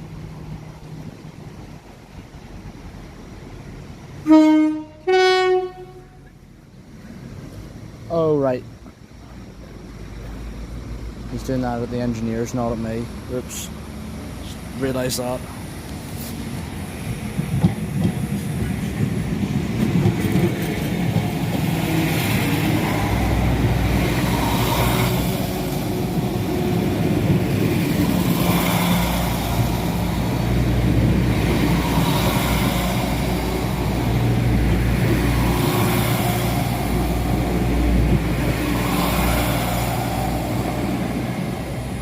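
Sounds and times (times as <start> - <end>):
train engine and rail rumble: 0.0 - 42.0.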